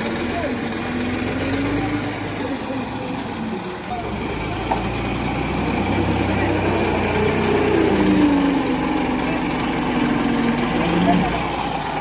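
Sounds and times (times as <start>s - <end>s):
tractor diesel engine straining: 0.0s - 12.0s.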